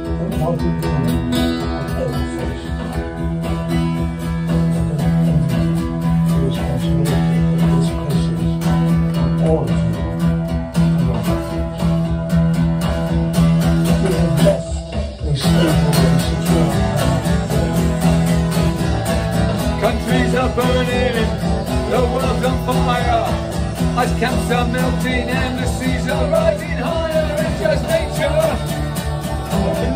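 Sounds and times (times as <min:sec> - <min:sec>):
acoustic guitar strumming: 0:00.0 - 0:29.9.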